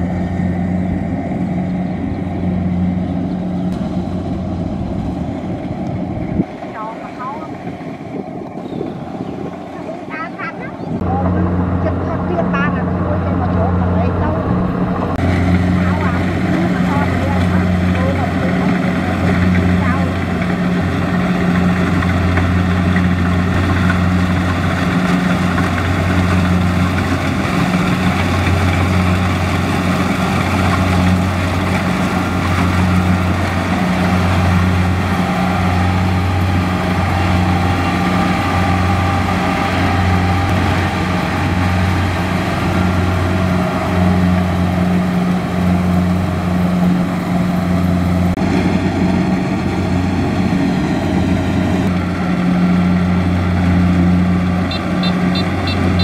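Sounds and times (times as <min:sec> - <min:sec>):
combine harvester engine drone: 0:00.0 - 0:56.0
machinery clatter: 0:09.6 - 0:56.0.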